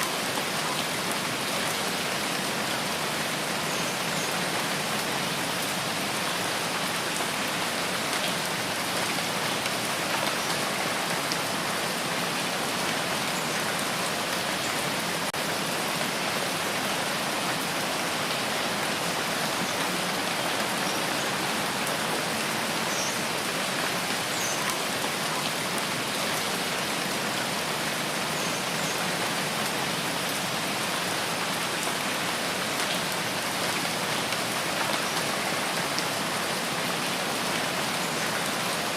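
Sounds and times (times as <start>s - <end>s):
rain on foliage: 0.0s - 38.9s.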